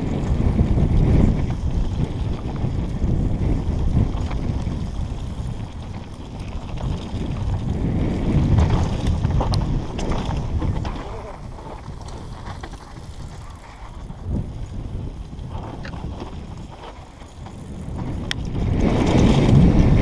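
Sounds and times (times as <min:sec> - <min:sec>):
bike tyres rolling on dirt: 0:00.0 - 0:20.0
sharp clicks from bike: 0:00.0 - 0:20.0
wind buffeting microphone: 0:00.0 - 0:20.0.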